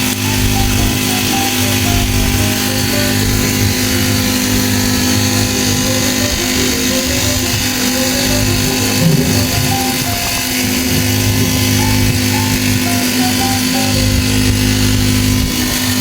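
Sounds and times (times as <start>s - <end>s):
simple stepping melody: 0.0s - 16.0s
small motor running: 0.0s - 16.0s.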